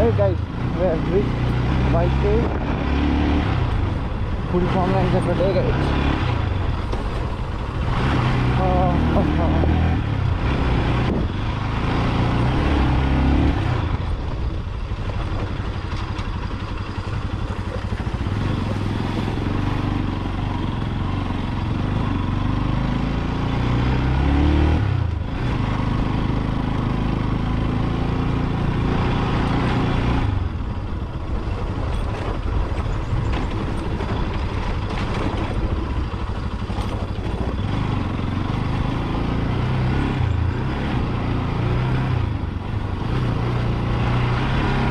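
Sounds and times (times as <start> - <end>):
motorcycle engine accelerating: 0.0 - 44.9
rush of riding noise: 0.0 - 44.9.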